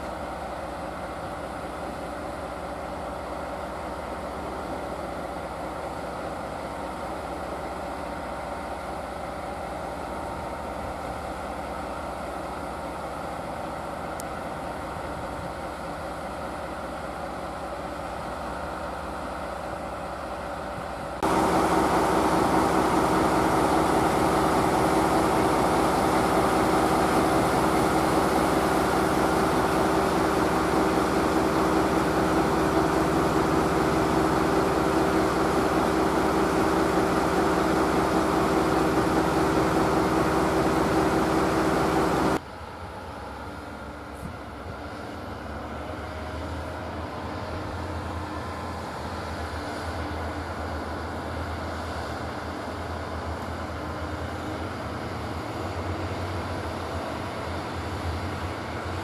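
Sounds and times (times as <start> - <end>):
diesel locomotive engines idling: 0.0 - 59.0.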